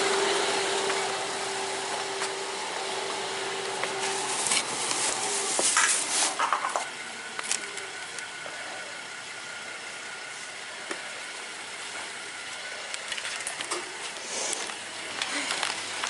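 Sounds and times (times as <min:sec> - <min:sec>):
car engine hum from inside: 0:00.0 - 0:16.0.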